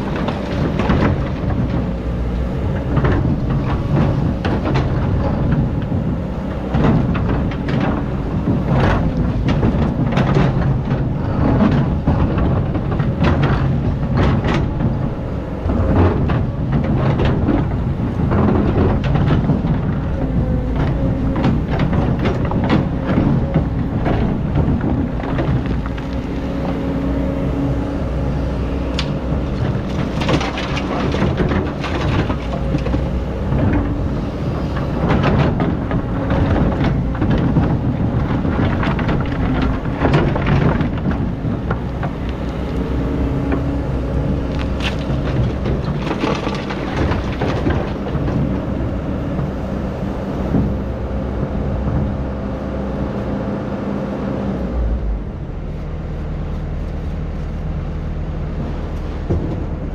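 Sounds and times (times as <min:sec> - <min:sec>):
bucket clanking and scraping: 0:00.0 - 0:49.8
diesel engine running: 0:00.0 - 0:59.9.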